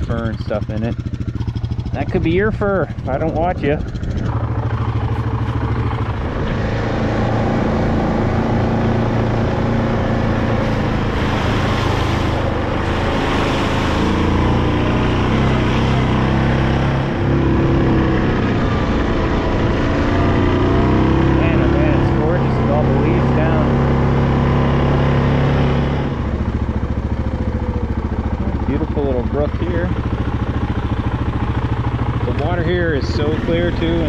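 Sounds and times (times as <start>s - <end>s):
atv engine running: 0.0s - 34.0s
tires rolling on trail: 0.0s - 34.0s.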